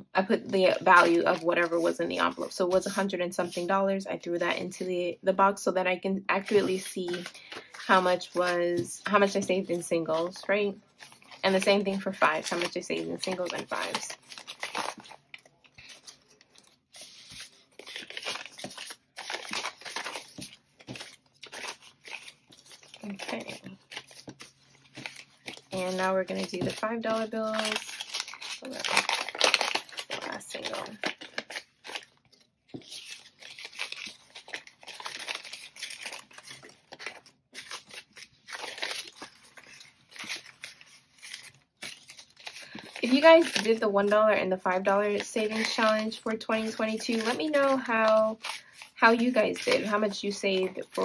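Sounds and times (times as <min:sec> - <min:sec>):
paper money rustling: 0:06.3 - 0:51.0.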